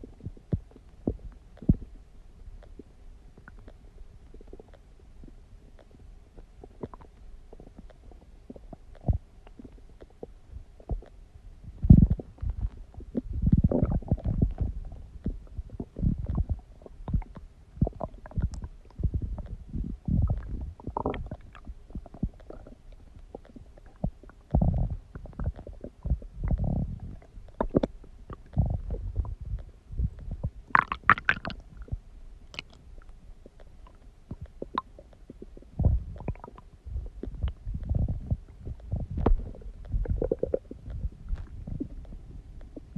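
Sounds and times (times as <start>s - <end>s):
stomach growling and gurgling: 0.0s - 42.9s.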